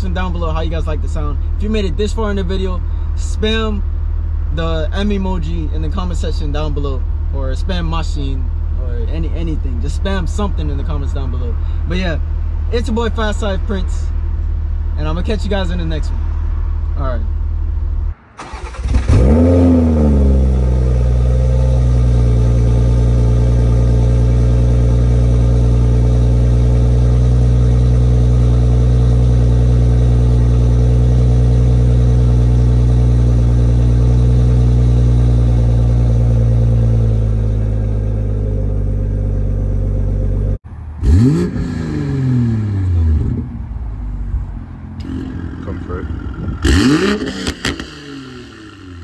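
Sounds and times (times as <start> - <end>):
car engine revving and idling: 0.0 - 49.0.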